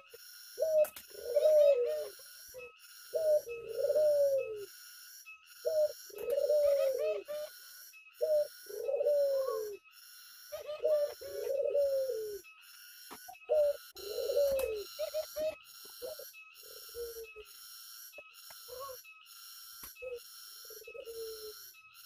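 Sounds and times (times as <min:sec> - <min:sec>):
doves cooing: 0:00.0 - 0:22.0
high pulsing buzz: 0:00.0 - 0:22.0.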